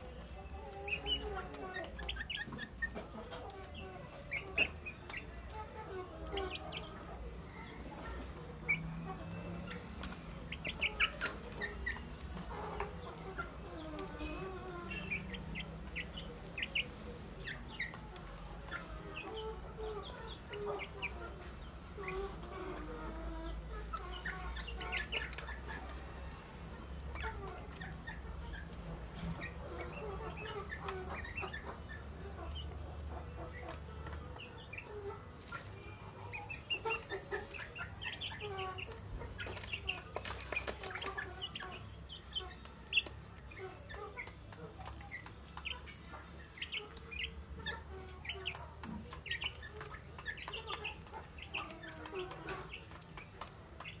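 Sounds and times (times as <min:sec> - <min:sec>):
chicks cheeping and clucking: 0:00.0 - 0:54.0.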